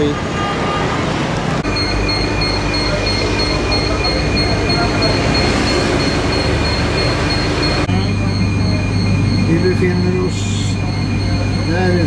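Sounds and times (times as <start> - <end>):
high pulsing whine: 1.6 - 12.0.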